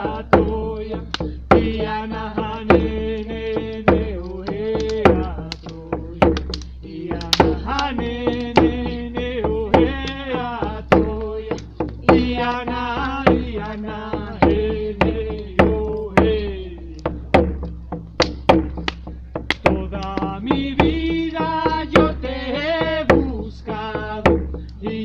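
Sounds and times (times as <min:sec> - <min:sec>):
person chanting a song: 0:00.0 - 0:17.2, 0:19.7 - 0:25.0
steady drum beats: 0:00.0 - 0:25.0.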